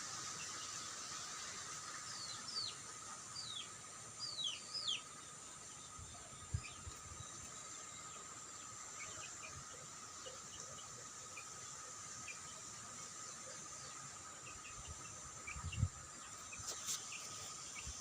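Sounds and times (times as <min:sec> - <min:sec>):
bird chirping: 0:03.4 - 0:18.0.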